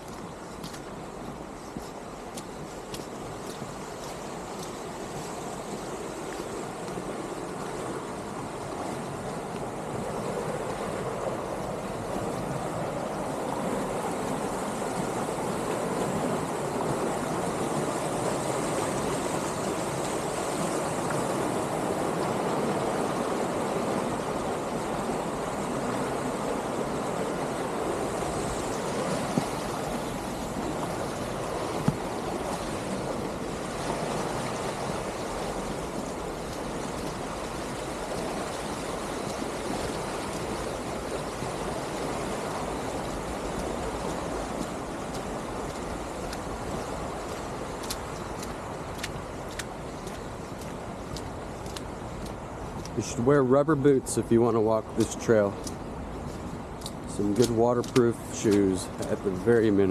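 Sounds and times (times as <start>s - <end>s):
creek rushing: 0.0s - 59.9s.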